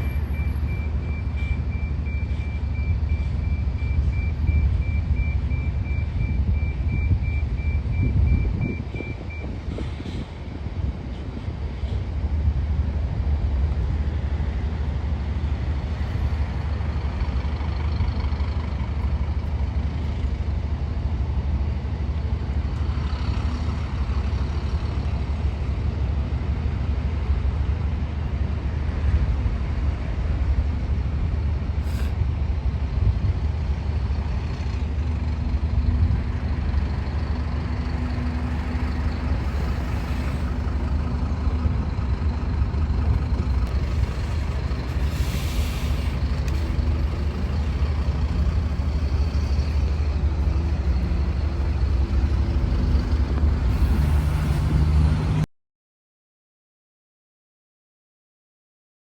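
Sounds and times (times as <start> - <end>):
bus diesel engine rumbling: 0.0 - 55.5.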